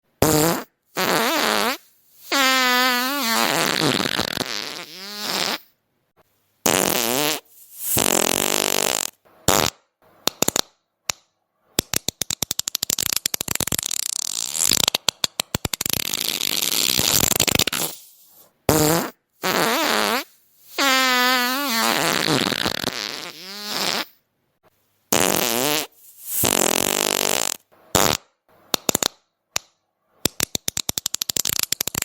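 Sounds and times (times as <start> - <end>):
fart sounds: 0.2 - 5.8, 6.6 - 10.7, 12.0 - 24.2, 25.1 - 29.2, 30.8 - 32.0.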